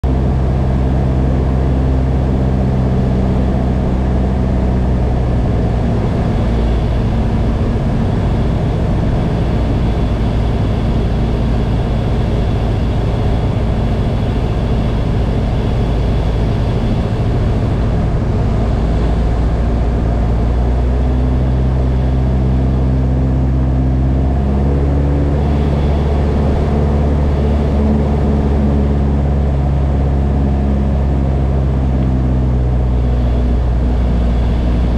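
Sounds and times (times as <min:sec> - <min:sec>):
light aircraft engine and propeller: 0:00.0 - 0:34.9.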